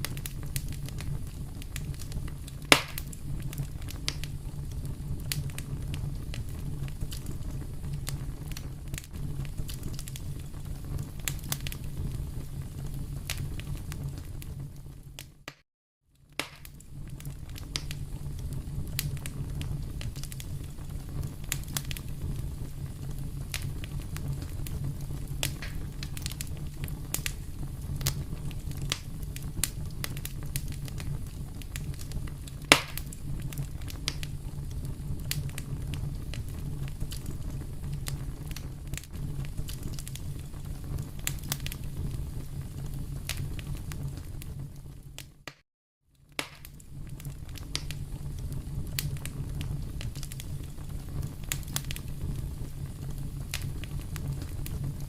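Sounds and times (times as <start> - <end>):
low rumble of flames: 0.0 - 15.5, 16.1 - 45.5, 46.1 - 55.0
fire pops and snaps: 0.0 - 15.6, 16.2 - 45.6, 46.2 - 55.0.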